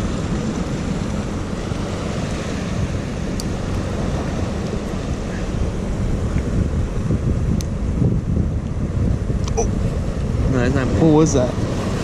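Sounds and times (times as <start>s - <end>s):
surf washing on rocks: 0.0s - 12.0s
wind rumbling on microphone: 0.0s - 12.0s.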